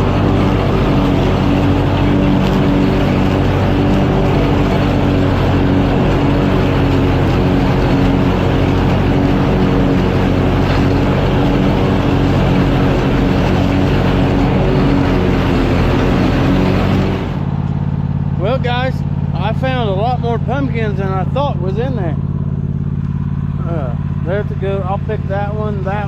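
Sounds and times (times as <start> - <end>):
mower engine running: 0.0 - 26.0.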